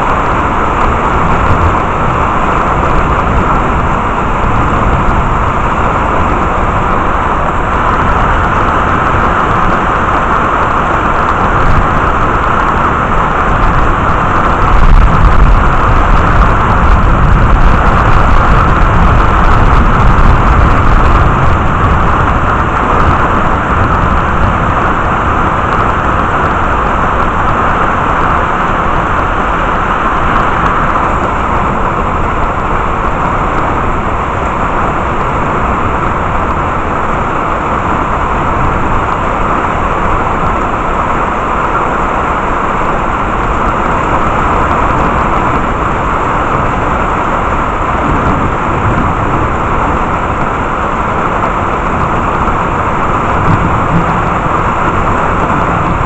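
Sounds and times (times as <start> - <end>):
heavy rain falling: 0.0 - 56.0
thunder rumble: 0.0 - 56.0.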